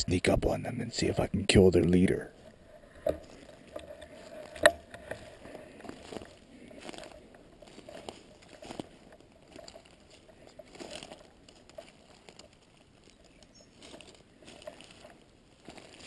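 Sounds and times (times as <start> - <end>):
footsteps crunching on dry leaves: 2.4 - 16.0.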